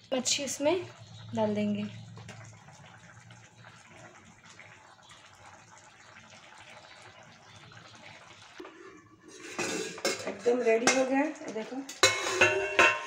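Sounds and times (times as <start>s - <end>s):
faint bubbling of simmering gravy: 0.0s - 13.0s.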